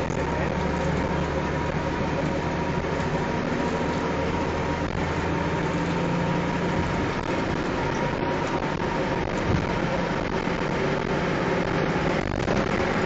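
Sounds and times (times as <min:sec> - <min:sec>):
bus engine hum and road noise: 0:00.0 - 0:13.0.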